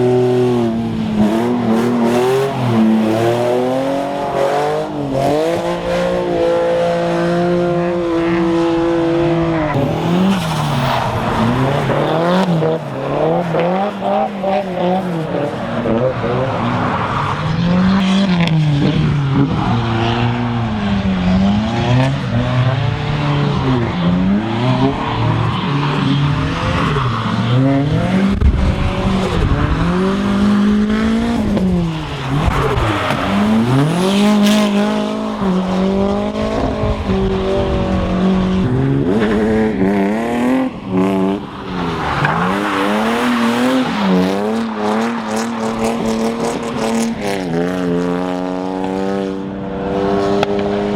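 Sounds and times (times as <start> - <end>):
car engines revving hard: 0.0 - 50.9.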